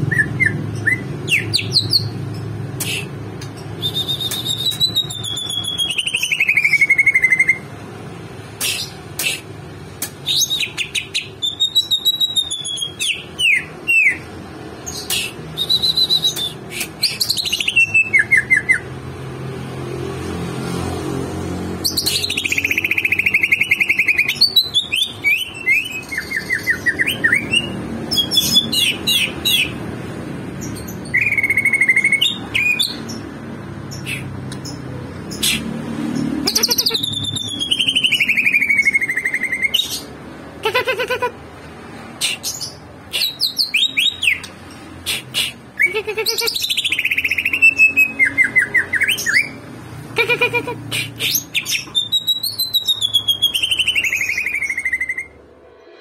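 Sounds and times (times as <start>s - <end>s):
bird chirping and trilling: 0.0s - 7.8s, 10.1s - 19.0s, 21.8s - 29.9s, 30.5s - 41.4s, 42.2s - 55.4s.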